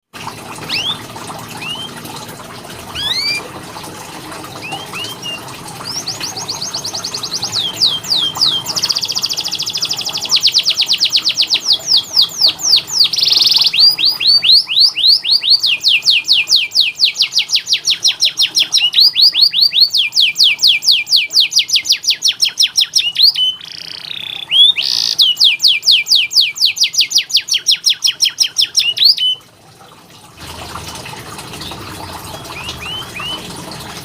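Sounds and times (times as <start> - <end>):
canary singing: 0.6 - 2.0, 2.9 - 3.5, 4.6 - 29.4, 31.7 - 33.5.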